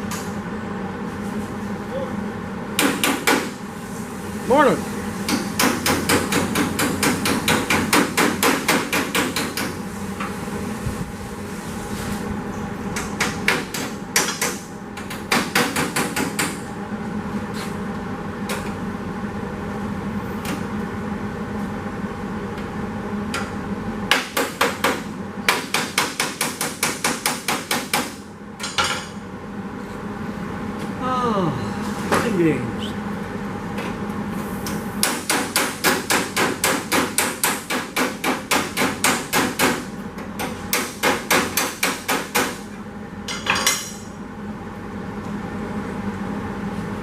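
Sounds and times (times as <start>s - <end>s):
steady background hum: 0.0s - 47.0s.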